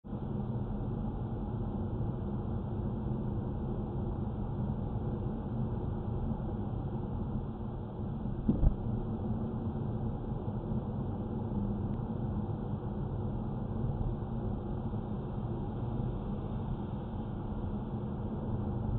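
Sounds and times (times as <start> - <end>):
car low rumble: 3.1 - 18.9.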